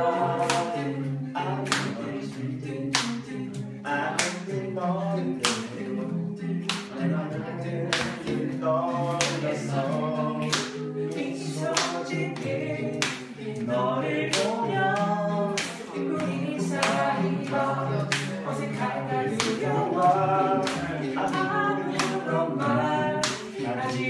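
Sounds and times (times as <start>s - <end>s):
group singing a cappella: 0.0s - 24.0s.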